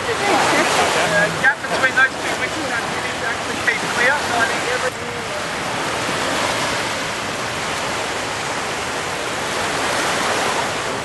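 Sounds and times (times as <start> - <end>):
small waves washing onto beach: 0.0 - 11.0.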